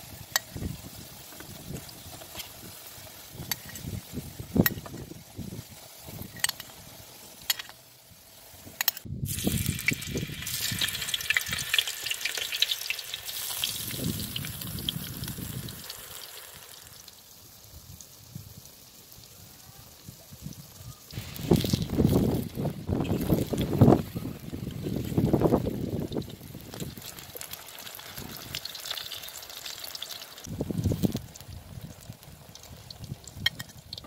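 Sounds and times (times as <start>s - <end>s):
eggplant slices sizzling: 0.0s - 34.0s
potatoes frying in oil: 0.0s - 34.0s.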